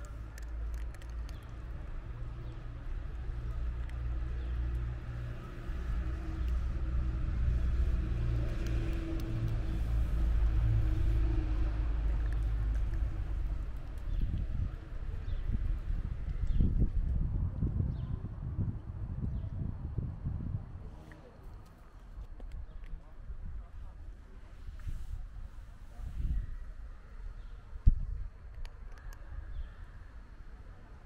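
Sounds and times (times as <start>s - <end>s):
vehicle engine rumble: 0.0s - 31.0s.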